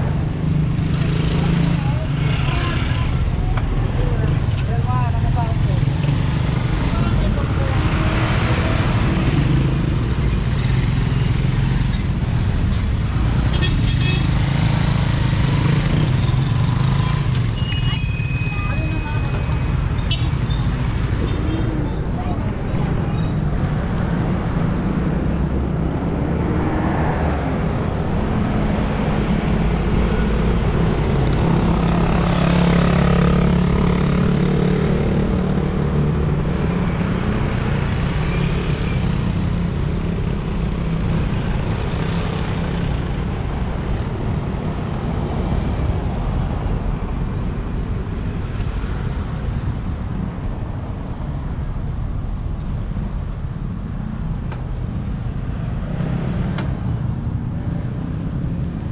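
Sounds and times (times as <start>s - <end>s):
steady road noise: 0.0s - 58.9s.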